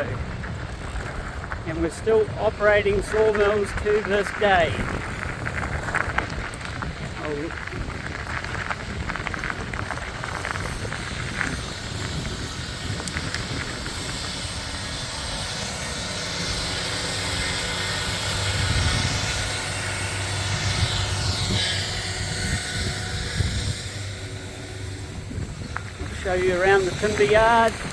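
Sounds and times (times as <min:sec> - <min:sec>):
low hum: 0:00.0 - 0:27.9
vehicle engine and tyre noise: 0:00.0 - 0:27.9.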